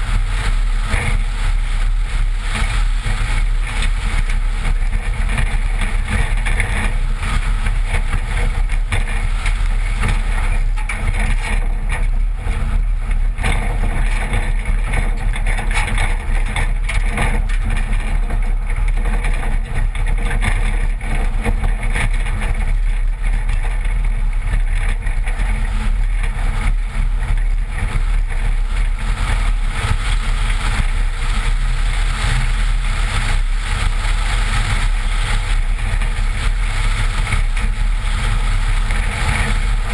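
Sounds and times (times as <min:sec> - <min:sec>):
car engine low rumble: 0:00.0 - 0:39.9
wind and tyre noise: 0:00.0 - 0:39.9.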